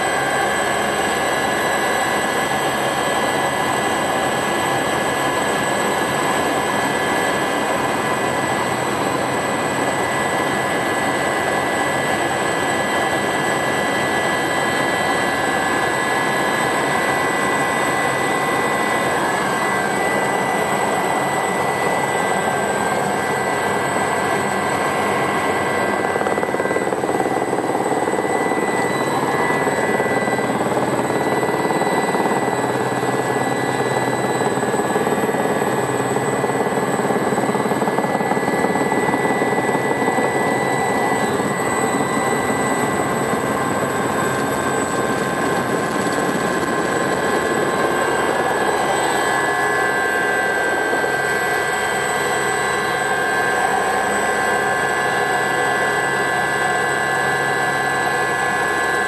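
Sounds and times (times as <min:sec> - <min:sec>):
rotor and airflow noise: 0:00.0 - 0:59.0
turbine engine whine: 0:00.0 - 0:59.0.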